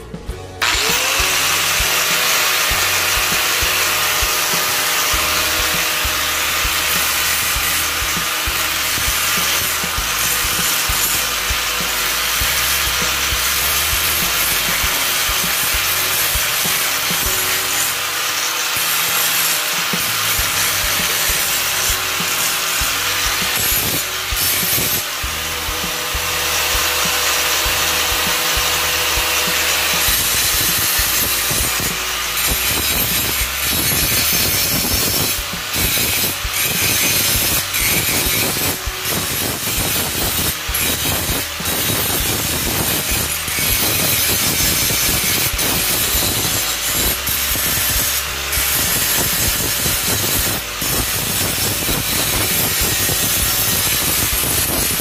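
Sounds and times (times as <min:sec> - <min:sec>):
angle grinder grinding metal: 0:00.0 - 0:55.0.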